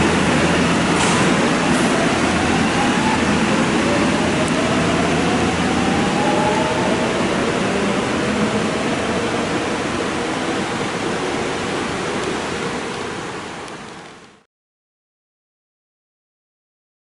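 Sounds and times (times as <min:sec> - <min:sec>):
subway train rumbling in tunnel: 0:00.0 - 0:14.4.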